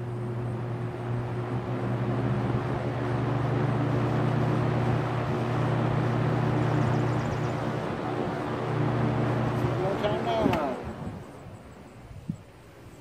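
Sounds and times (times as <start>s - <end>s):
electric fan motor hum: 0.0s - 13.0s
rush of air from fan blades: 0.0s - 13.0s.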